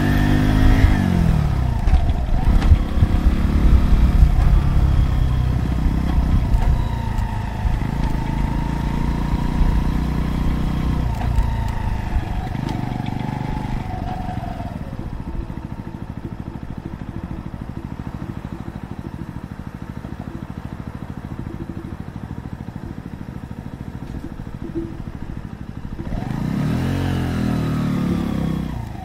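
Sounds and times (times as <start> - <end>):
engine revving: 0.0 - 29.0
motorcycle engine idling: 0.0 - 29.0.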